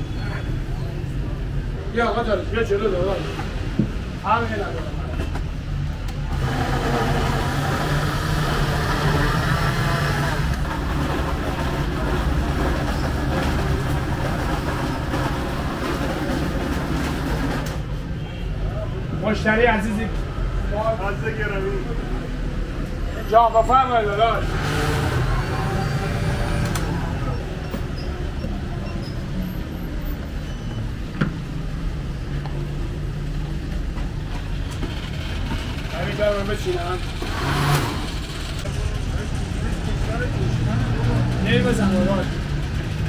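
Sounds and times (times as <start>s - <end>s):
street traffic rumble: 0.0s - 43.0s.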